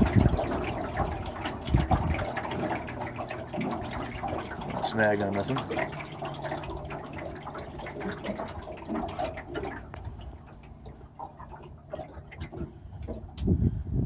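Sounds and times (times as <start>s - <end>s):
water splashing against boat hull: 0.0s - 13.7s
low steady hum: 0.0s - 14.0s.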